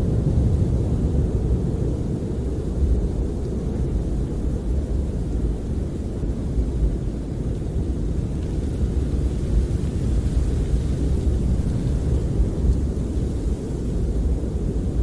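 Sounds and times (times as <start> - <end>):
wind buffeting a camper: 0.0 - 15.0.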